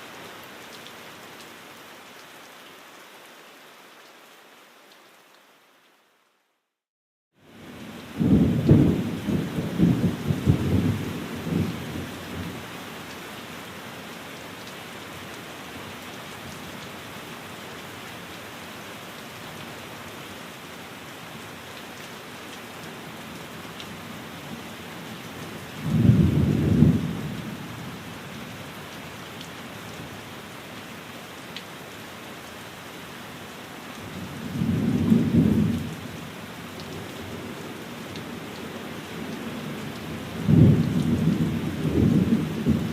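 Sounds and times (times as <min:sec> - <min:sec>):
steady rain: 0:00.0 - 0:06.8, 0:07.4 - 0:42.9.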